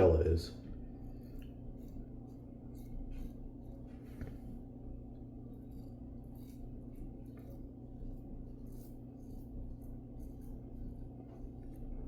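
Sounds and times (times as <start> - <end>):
low room hum: 0.0 - 12.0
razor scraping stubble: 0.8 - 12.0.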